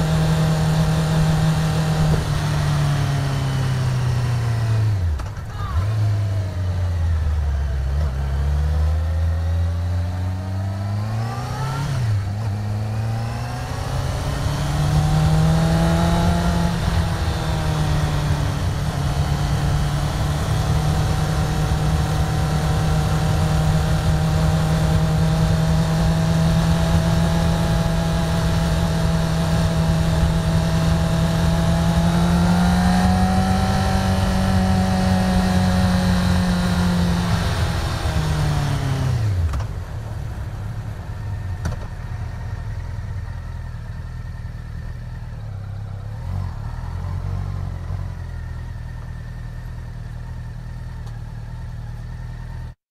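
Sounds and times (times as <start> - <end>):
motorcycle engine revving: 0.0 - 39.8, 41.4 - 52.8.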